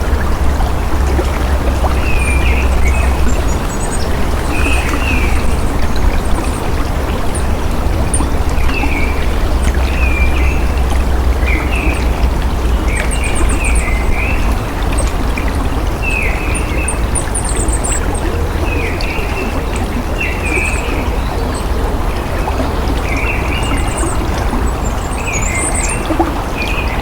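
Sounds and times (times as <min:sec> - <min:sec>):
birds making falling calls: 0:00.0 - 0:27.0
birds trilling: 0:00.0 - 0:27.0
flowing water with deep rumble: 0:00.0 - 0:27.0.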